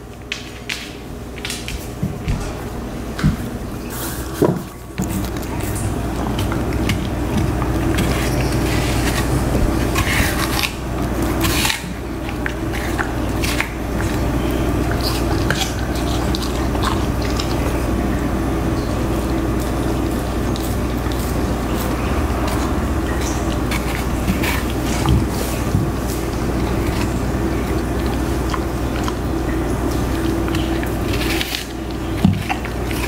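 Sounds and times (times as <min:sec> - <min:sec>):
steady low hum: 0:00.0 - 0:33.0
dog crunching an apple: 0:00.1 - 0:33.0.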